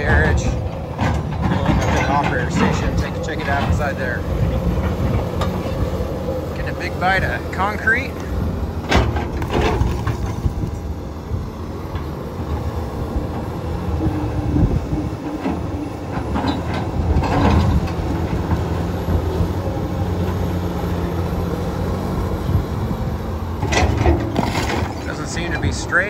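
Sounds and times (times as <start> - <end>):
excavator diesel engine under load: 0.0 - 26.0.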